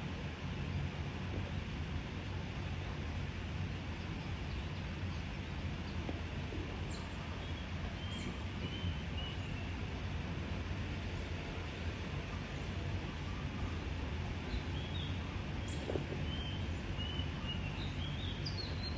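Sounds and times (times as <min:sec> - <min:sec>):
low outdoor hum: 0:00.0 - 0:18.9.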